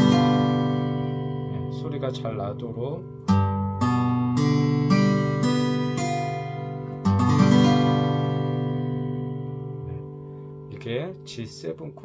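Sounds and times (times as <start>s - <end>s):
acoustic guitar plucked and strummed: 0.0s - 12.0s.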